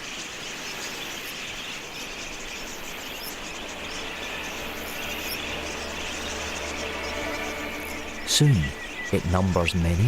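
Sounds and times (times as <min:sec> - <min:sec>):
flock of budgerigars chattering: 0:00.0 - 0:10.0.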